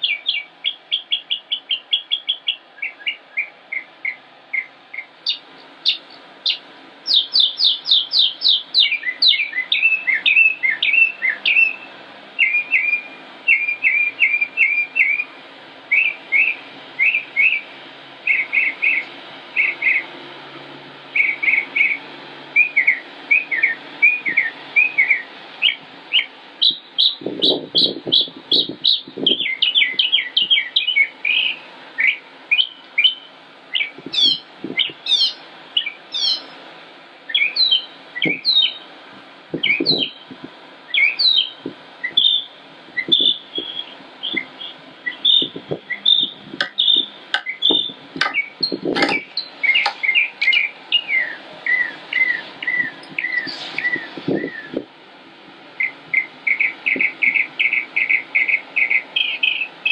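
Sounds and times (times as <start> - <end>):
songbird singing: 0.0 - 54.9, 55.8 - 59.9.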